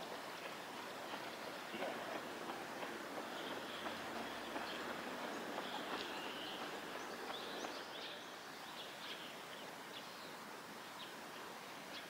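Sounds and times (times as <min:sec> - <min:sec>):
steady outdoor background hiss: 0:00.0 - 0:12.0.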